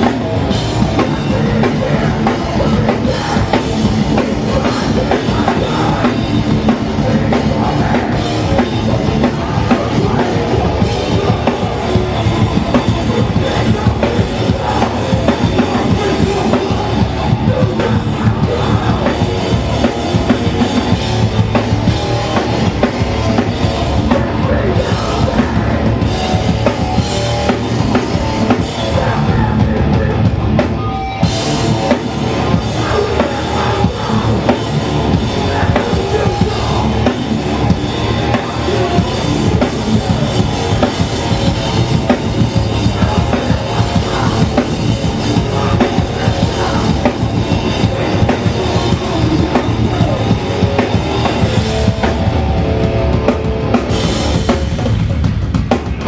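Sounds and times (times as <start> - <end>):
punk band playing live: 0.0 - 56.0.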